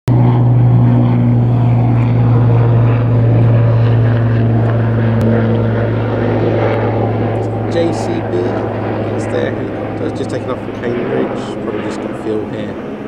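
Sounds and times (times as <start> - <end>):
helicopter rotor drone: 0.1 - 13.0.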